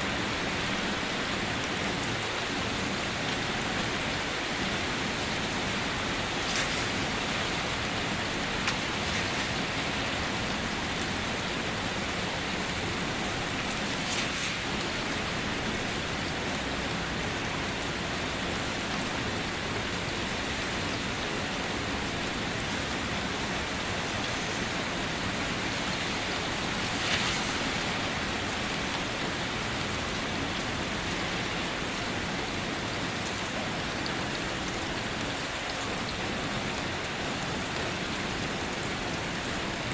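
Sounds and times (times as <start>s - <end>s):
louder raindrops: 0.0s - 39.9s
steady rain falling: 0.0s - 39.9s.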